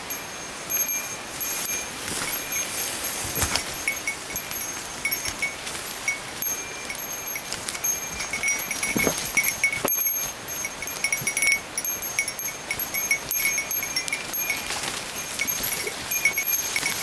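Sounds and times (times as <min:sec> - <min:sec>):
small metal bell jingling: 0:00.0 - 0:17.0
footsteps crunching through dry leaves: 0:00.7 - 0:17.0.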